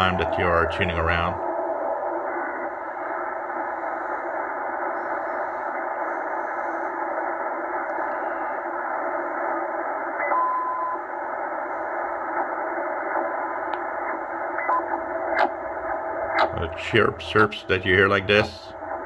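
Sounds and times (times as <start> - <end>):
muffled radio band hiss: 0.0 - 19.0.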